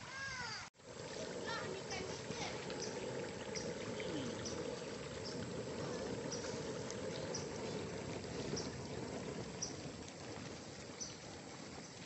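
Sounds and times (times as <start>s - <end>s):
water boiling in pot: 0.0s - 12.0s.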